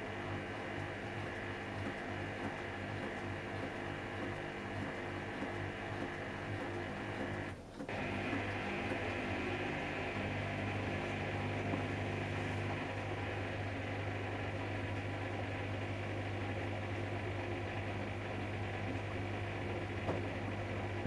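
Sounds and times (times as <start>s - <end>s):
washing machine motor humming: 0.0s - 21.0s.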